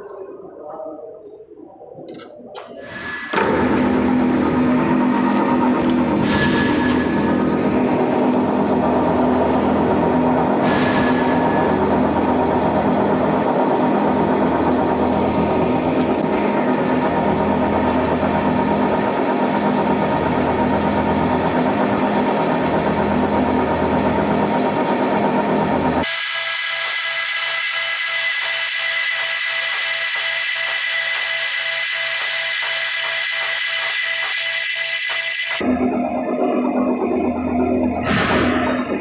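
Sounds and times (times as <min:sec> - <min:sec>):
thin high machine whine: 0:02.8 - 0:39.0
metal lathe running: 0:03.4 - 0:36.1.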